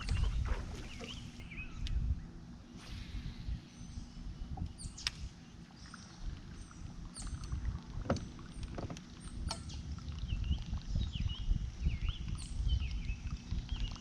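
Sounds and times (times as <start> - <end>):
low rumble of wind and water: 0.0 - 14.0.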